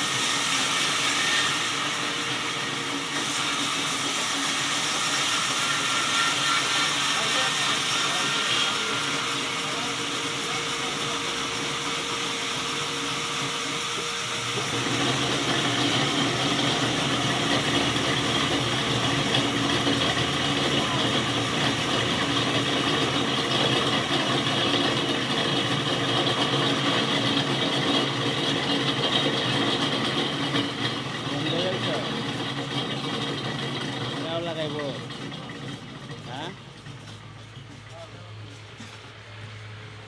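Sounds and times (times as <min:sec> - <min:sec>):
band sawmill cutting log: 0:00.0 - 0:40.0.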